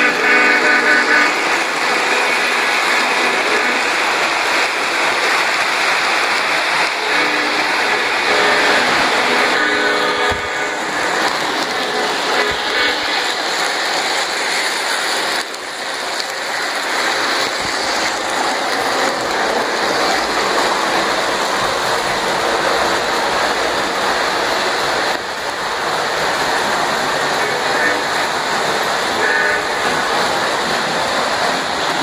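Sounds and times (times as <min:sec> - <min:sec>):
model trains rolling on track: 0:00.0 - 0:32.0.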